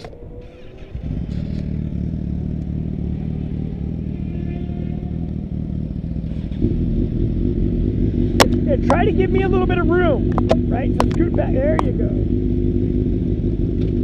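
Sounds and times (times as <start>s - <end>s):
motorcycle engine revving: 0.0s - 14.0s
motorcycle engine idling: 0.8s - 14.0s.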